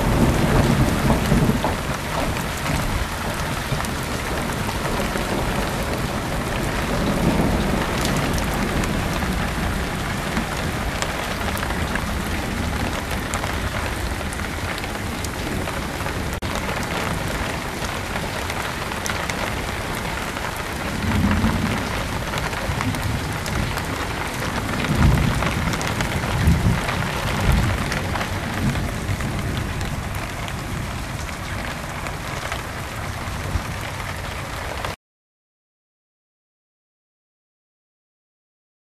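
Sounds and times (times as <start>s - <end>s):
thunder rumbling: 0.0s - 34.9s
heavy rain falling: 0.0s - 35.0s.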